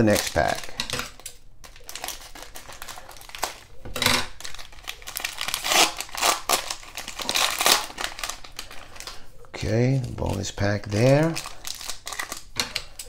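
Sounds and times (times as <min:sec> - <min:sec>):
cellophane wrapper crinkling: 0:00.0 - 0:13.0.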